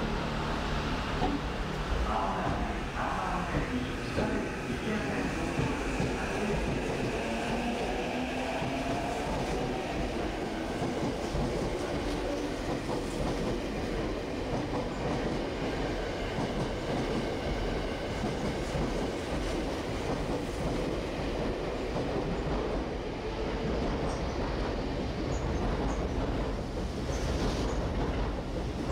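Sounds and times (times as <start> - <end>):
train rumble: 0.0 - 28.9.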